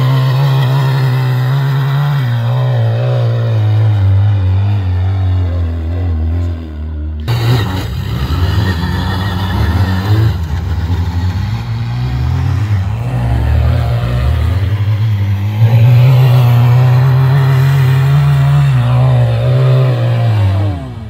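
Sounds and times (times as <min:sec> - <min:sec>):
loud steady engine: 0:00.0 - 0:21.0
quad bike engines revving: 0:00.0 - 0:21.0.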